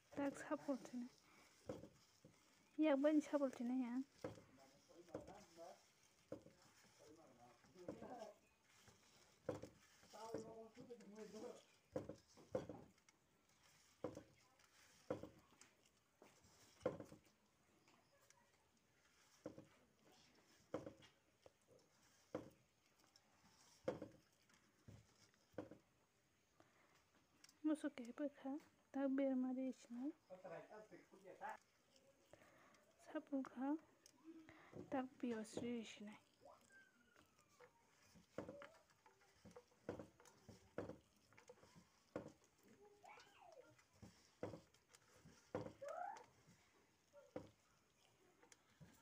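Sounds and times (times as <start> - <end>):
soft squishing presses: 0.0 - 28.7, 31.0 - 49.0.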